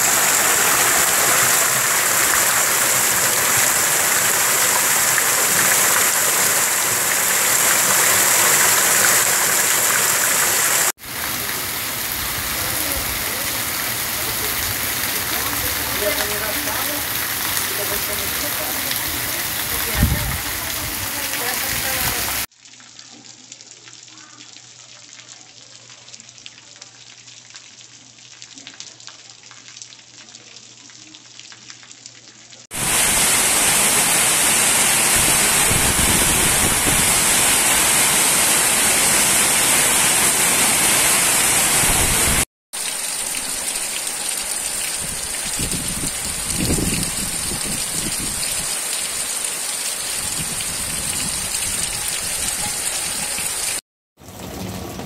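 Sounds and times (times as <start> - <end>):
heavy rain: 0.0 - 22.5, 32.7 - 55.0
water streaming off roof: 0.0 - 55.0.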